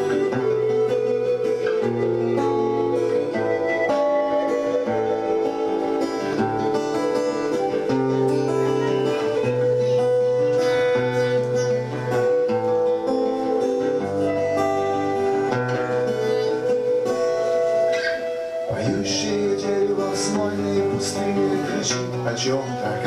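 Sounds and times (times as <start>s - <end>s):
guitar: 0.0s - 23.0s.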